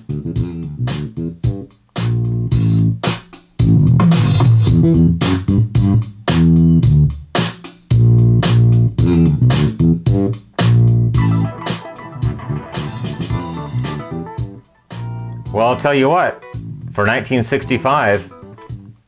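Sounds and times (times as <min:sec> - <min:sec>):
guitar and bass music: 0:00.0 - 0:19.0.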